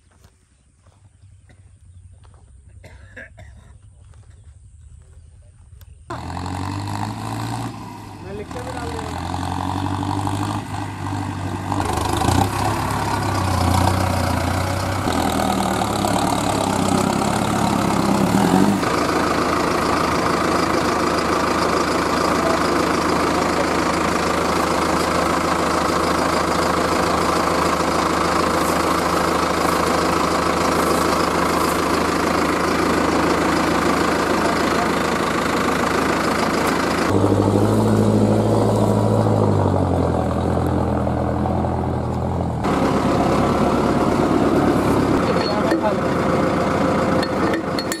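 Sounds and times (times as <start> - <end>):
heavy diesel engine running: 5.9 - 48.0.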